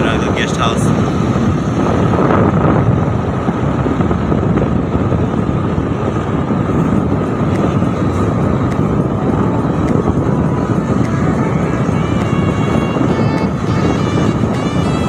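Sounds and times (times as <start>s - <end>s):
vehicle road and wind noise: 0.0s - 15.0s.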